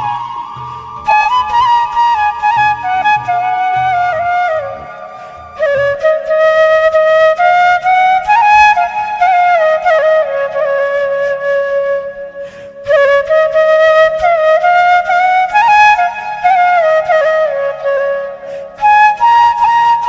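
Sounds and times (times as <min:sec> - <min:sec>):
flute melody: 0:00.0 - 0:20.0.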